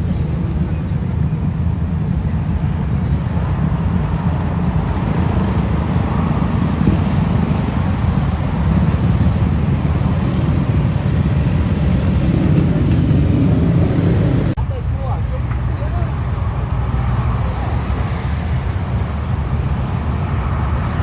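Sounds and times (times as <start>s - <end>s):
motorcycle engines: 0.0s - 21.0s
road traffic rumble: 0.0s - 21.0s.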